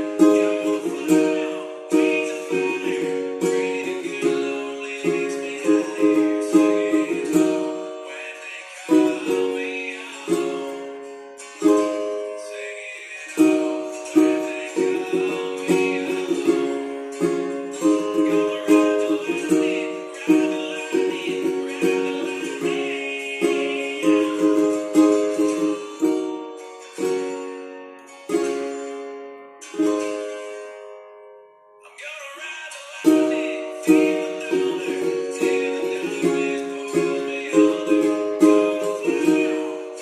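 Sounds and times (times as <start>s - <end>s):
ukulele strumming: 0.0s - 40.0s.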